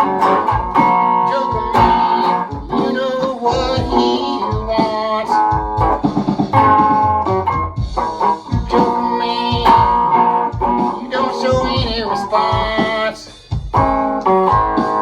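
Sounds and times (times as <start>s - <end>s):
guitar-led honky-tonk music: 0.0s - 15.0s.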